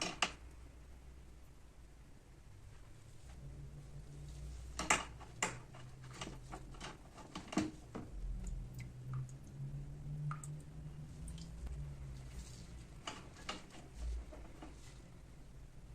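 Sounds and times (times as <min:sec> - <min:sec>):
steady low hum: 0:00.5 - 0:07.2, 0:07.8 - 0:15.9.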